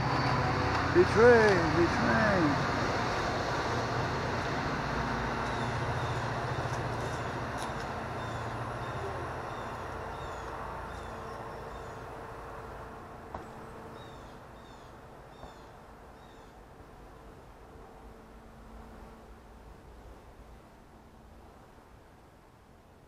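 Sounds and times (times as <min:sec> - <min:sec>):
low engine rumble: 0:00.0 - 0:22.2.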